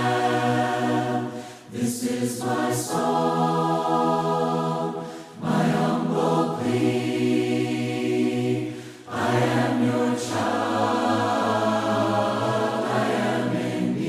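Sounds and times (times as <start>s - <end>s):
group singing a hymn a cappella: 0.0s - 14.0s.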